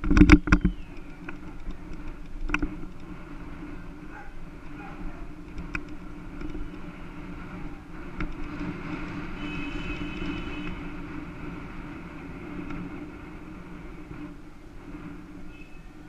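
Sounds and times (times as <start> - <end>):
bicycle rolling over asphalt: 0.0 - 16.0.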